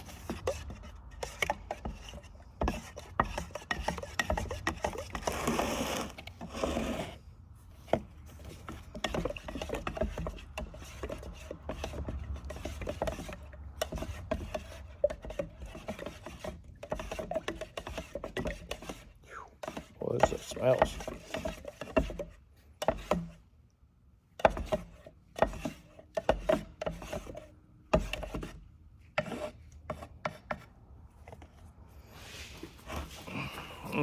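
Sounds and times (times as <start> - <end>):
rubbing and scraping: 0.0 - 23.4, 24.4 - 34.0.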